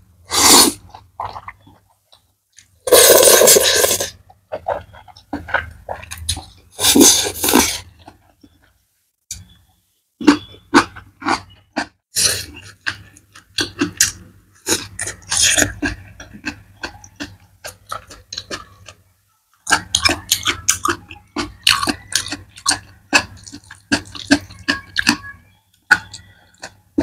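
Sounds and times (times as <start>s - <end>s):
person chewing crisp wet: 0.3s - 8.6s, 10.2s - 19.0s, 19.6s - 26.8s.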